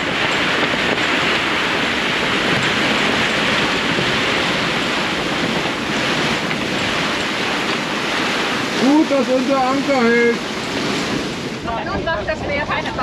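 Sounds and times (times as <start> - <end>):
heavy rain on water: 0.0 - 13.0
wind: 0.0 - 13.0.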